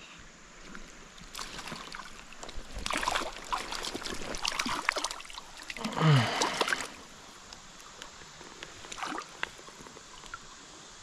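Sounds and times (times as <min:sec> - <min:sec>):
water splashing and dripping: 0:00.6 - 0:10.6.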